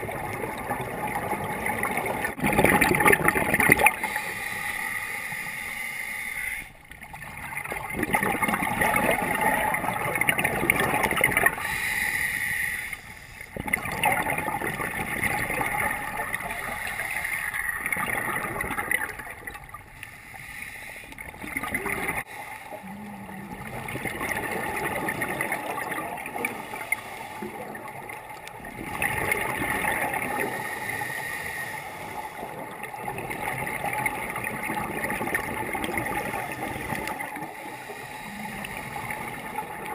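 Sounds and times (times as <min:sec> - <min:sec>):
underwater regulator bubbles gurgling: 0:00.0 - 0:39.9.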